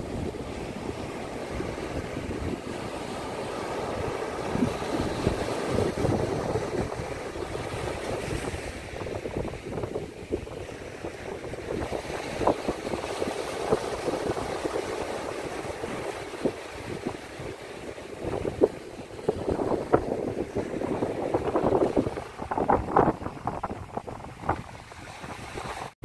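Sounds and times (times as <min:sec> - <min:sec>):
small waves on shore: 0:00.0 - 0:26.0
wind buffeting microphone: 0:00.0 - 0:26.0.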